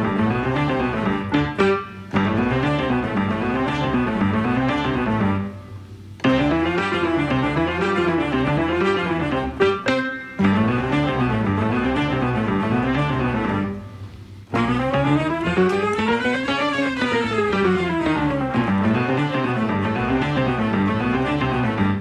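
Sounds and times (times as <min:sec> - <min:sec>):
guitar and walking bass music: 0:00.0 - 0:05.6, 0:06.2 - 0:22.0.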